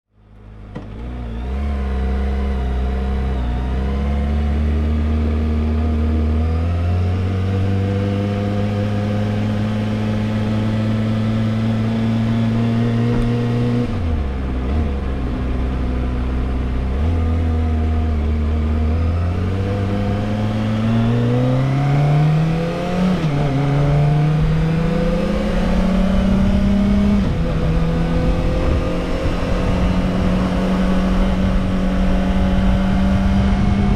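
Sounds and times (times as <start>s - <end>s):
motorcycle engine revving: 0.8s - 33.9s.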